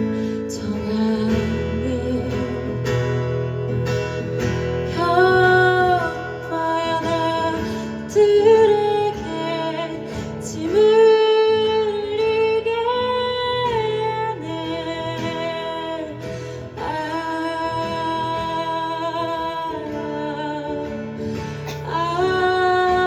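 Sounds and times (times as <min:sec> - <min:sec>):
acoustic guitar: 0:00.0 - 0:23.0.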